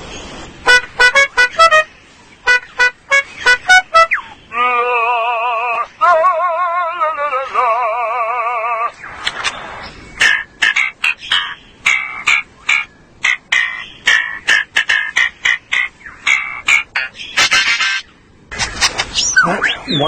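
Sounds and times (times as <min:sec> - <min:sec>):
lyrebird singing mimicked sounds: 0:00.8 - 0:20.0.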